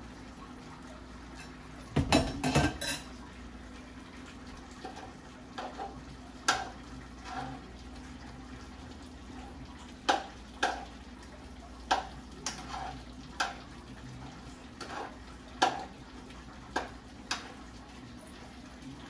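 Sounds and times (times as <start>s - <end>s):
pot bubbling: 0.0s - 19.0s.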